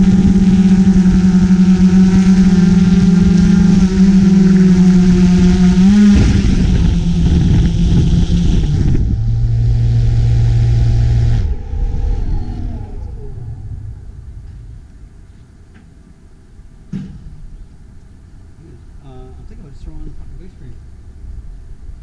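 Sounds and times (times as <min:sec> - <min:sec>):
drone rotors humming: 0:00.0 - 0:22.0.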